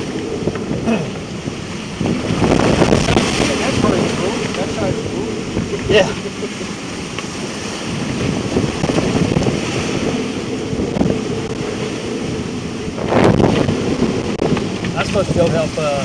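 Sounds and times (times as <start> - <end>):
sea rushing along a hull: 0.0 - 16.0
wind blowing across microphone: 0.0 - 16.0.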